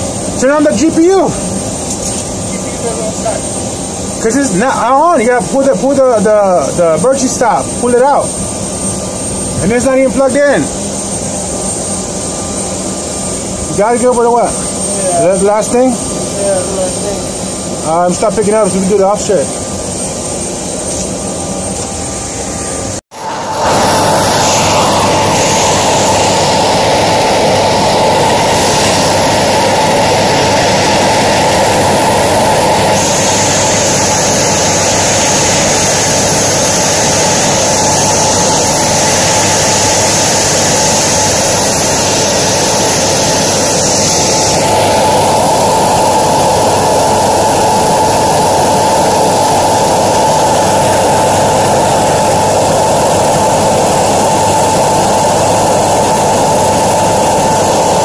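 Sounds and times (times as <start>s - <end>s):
jet engine idling: 0.0s - 58.0s.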